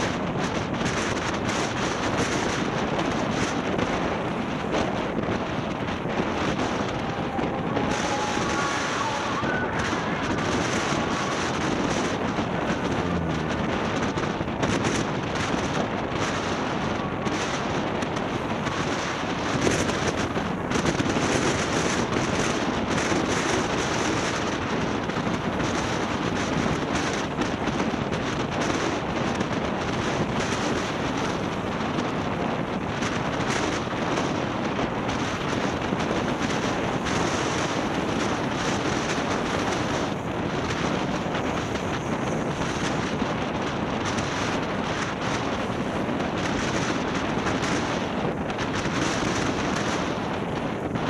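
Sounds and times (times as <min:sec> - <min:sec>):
moving vehicle rumble: 0:00.0 - 0:51.0
wind buffeting microphone: 0:00.0 - 0:51.0.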